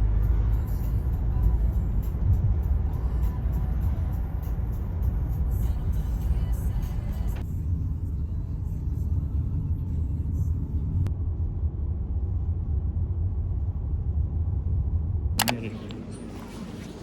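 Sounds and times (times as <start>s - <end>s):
moving car rumble: 0.0s - 17.0s.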